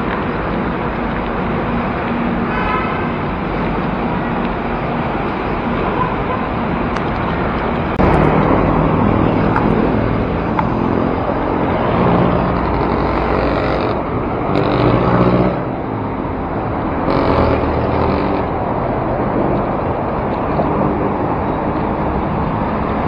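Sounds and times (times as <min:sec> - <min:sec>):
car engines passing: 0:00.0 - 0:23.0
road noise rush: 0:00.0 - 0:23.0.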